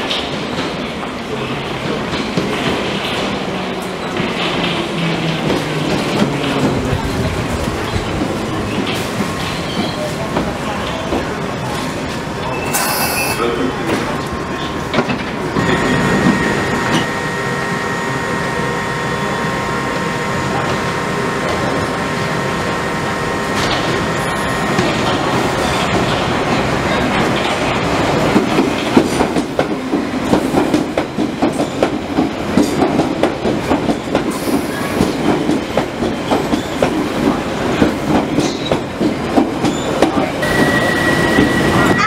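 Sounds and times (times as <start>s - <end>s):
train rumble: 0.0s - 42.0s.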